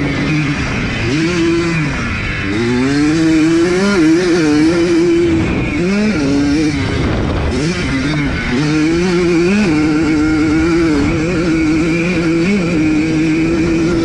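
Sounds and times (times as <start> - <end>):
two-stroke motorcycle engine: 0.0 - 14.0.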